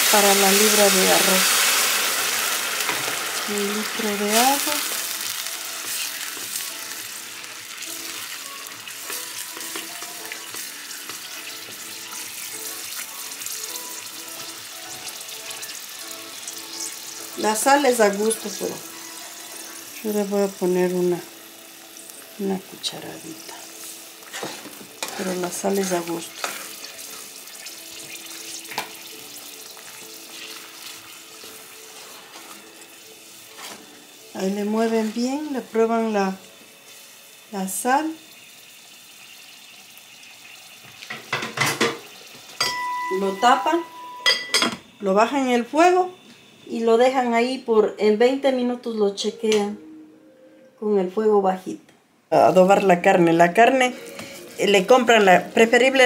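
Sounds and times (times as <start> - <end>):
water bubbling and sizzling in pot: 0.0 - 47.5
soft background music: 0.0 - 56.0.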